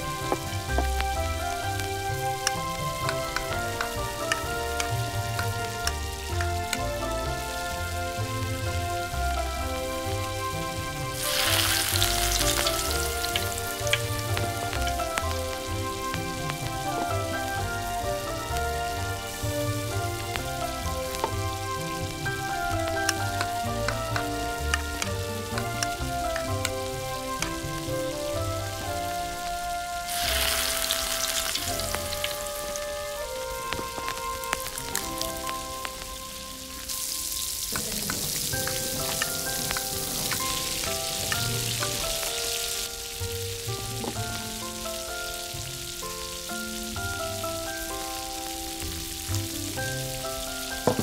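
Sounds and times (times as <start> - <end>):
background music: 0.0 - 51.0
onion sizzling in hot oil: 0.0 - 51.0.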